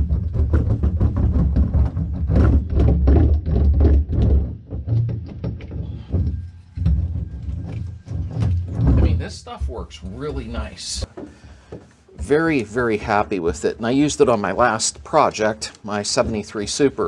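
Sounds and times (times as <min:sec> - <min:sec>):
roller rubbing and knocking: 0:00.0 - 0:11.2, 0:12.1 - 0:17.0.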